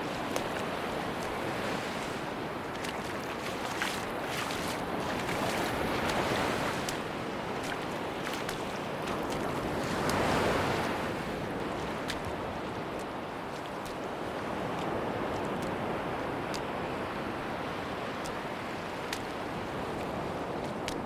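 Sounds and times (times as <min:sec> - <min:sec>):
sea surf washing onto beach: 0:00.0 - 0:21.0.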